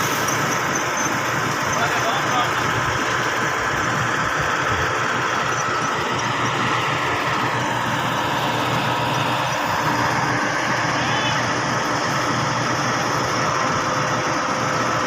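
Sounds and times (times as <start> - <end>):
concrete pump engine running: 0.0 - 15.0.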